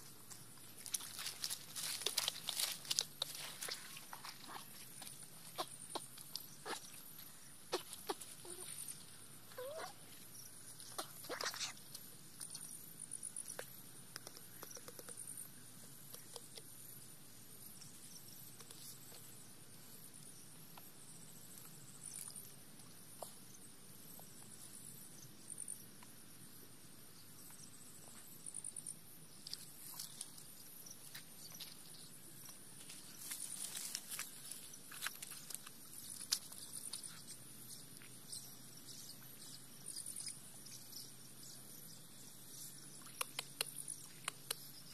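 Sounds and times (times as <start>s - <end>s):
insect trills: 0.0s - 44.9s
insects buzzing: 0.0s - 44.9s.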